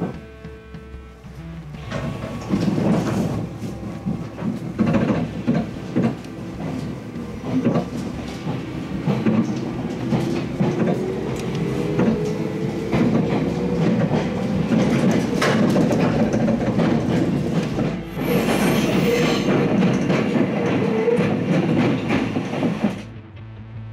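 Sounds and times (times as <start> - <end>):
train motor whine rising: 0.0 - 22.2
train wheels clacking on rails: 0.0 - 23.1.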